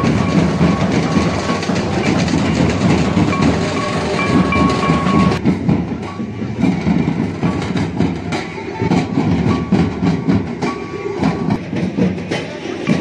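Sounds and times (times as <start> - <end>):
metal barrel drums beaten: 0.0 - 13.0.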